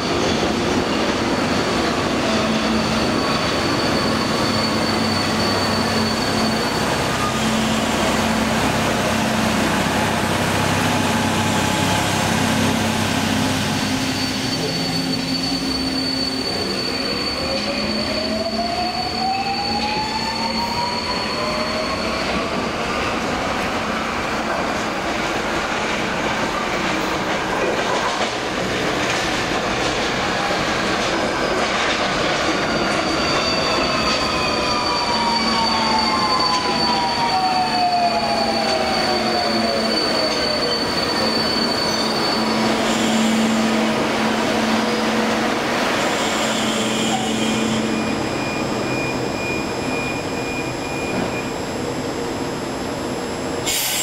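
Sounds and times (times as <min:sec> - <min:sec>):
train rolling: 0:00.0 - 0:54.0
wheels squealing on rails: 0:00.0 - 0:54.0.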